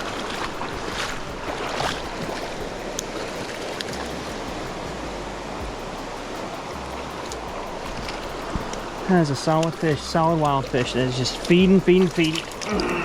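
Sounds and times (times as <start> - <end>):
river rushing: 0.0 - 13.0
water splashes: 0.0 - 13.0.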